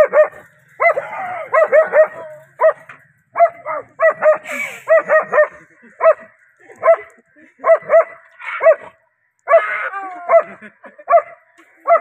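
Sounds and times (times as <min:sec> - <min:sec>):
dog barking: 0:00.0 - 0:08.9, 0:11.1 - 0:12.0.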